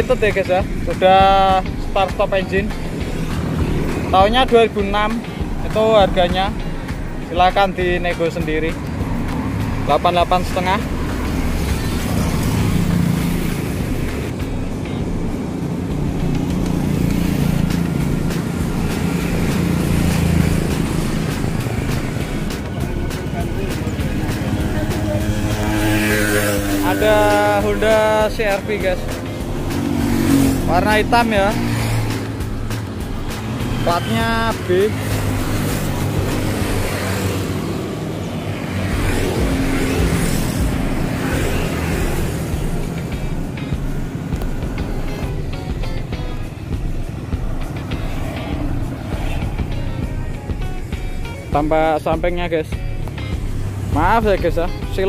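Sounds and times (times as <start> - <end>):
passing vehicle engine hum: 0.0 - 55.0
traffic rumble: 0.0 - 55.0.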